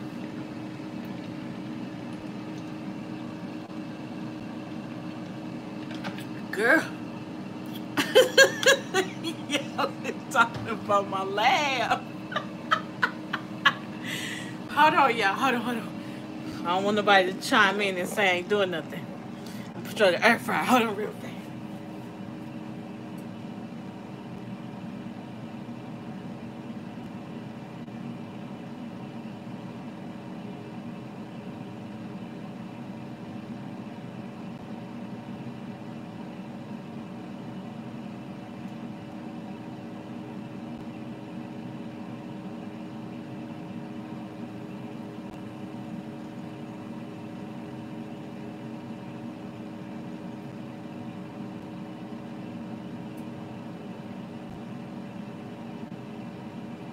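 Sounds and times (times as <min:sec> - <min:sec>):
air fryer fan whirring: 0:00.0 - 0:56.9
motor hum: 0:00.0 - 0:56.9.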